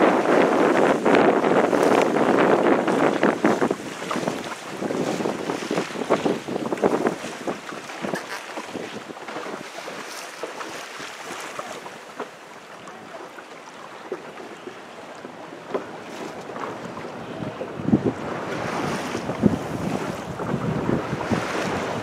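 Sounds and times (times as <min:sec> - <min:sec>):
wind buffeting microphone: 0:00.0 - 0:13.2, 0:14.0 - 0:22.0
water splashing along hull: 0:00.0 - 0:22.0.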